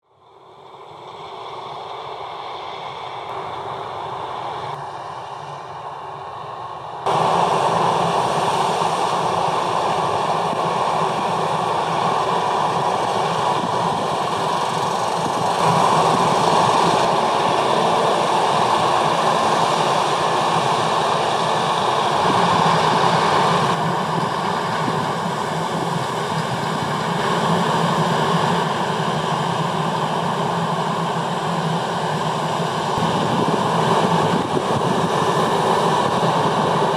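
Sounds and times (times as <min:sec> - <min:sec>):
combine harvester running: 0:07.1 - 0:36.9.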